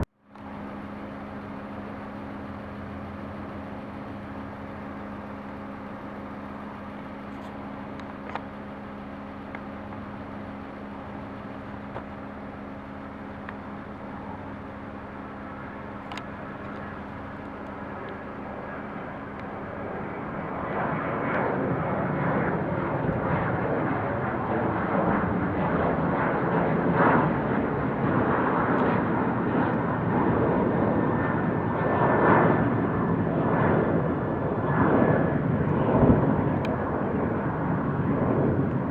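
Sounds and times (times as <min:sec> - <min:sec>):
jet airliner engine rumble: 0:00.0 - 0:38.9.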